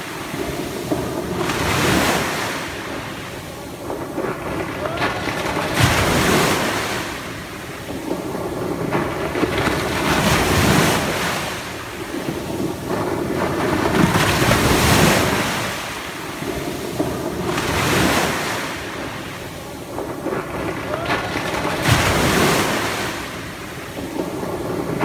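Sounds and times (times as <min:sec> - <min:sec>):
small waves breaking on beach: 0:00.0 - 0:25.0.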